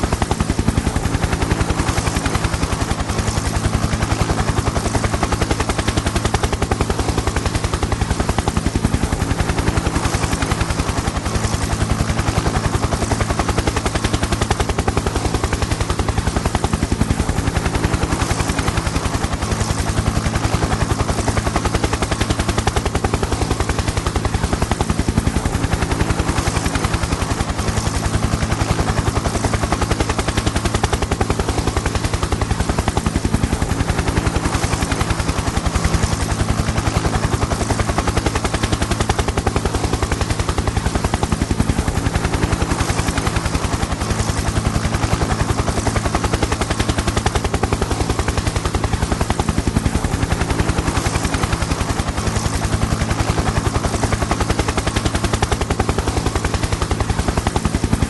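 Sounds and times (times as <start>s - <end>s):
helicopter engine hum: 0.0s - 58.0s
helicopter rotor chopping: 0.0s - 58.0s.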